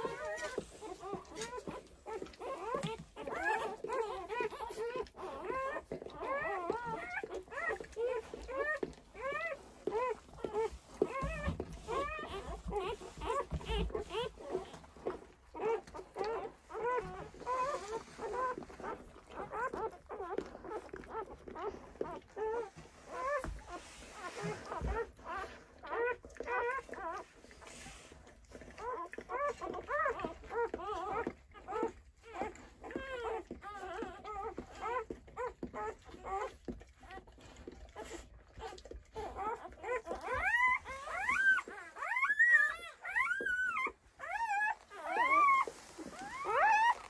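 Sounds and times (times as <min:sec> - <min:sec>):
puppies squeaking: 0:00.0 - 0:47.0
puppy whining: 0:00.0 - 0:47.0.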